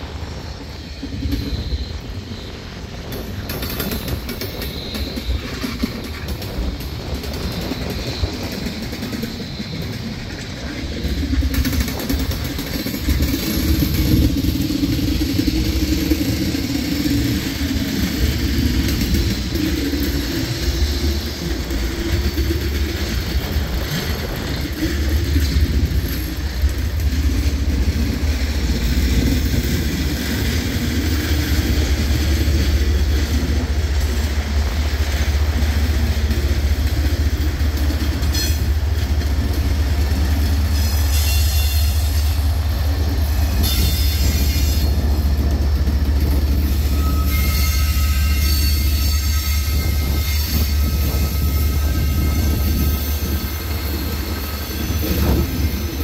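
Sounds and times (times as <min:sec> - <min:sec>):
diesel locomotive engine: 0:00.0 - 0:56.0
train wheels rumbling on rail: 0:00.0 - 0:56.0
wheel squeal: 0:00.2 - 0:56.0.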